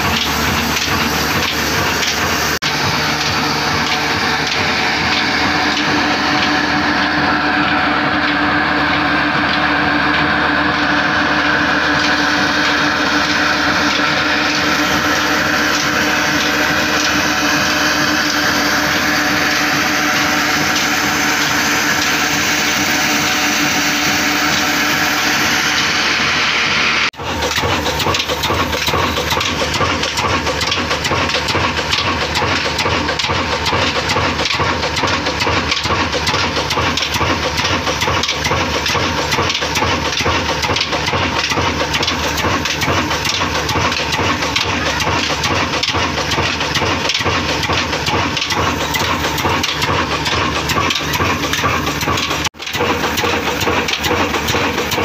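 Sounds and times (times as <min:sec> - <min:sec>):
diesel engine firing strokes: 0:00.0 - 0:55.0.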